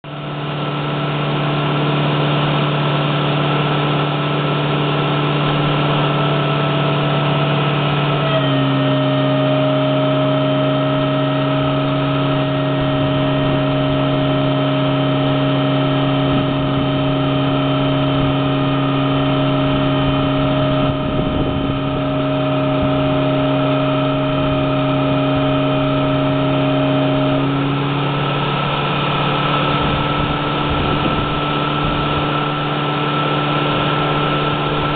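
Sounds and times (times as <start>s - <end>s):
machine droning hum: 0.1s - 34.9s.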